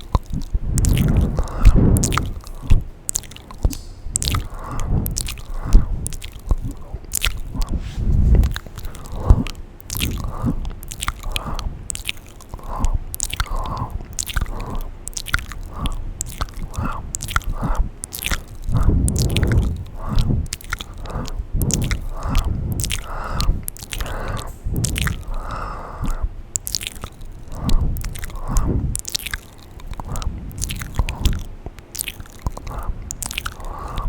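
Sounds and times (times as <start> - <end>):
wet mouth clicks and smacks: 0.0 - 34.0.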